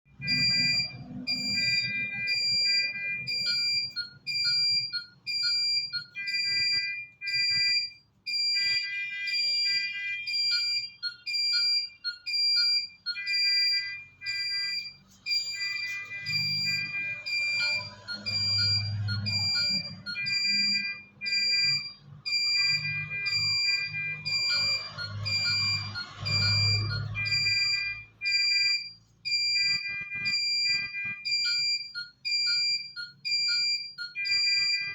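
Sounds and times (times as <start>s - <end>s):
high-pitched electronic beeps: 0.1s - 34.9s.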